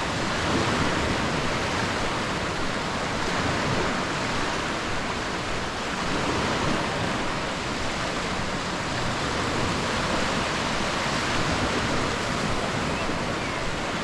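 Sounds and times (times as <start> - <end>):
surf washing on sandy beach: 0.0 - 14.0.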